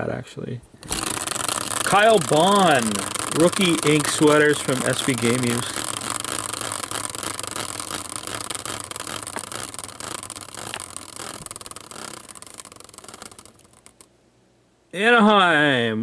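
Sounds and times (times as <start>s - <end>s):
prize wheel whirring: 0.8s - 14.1s.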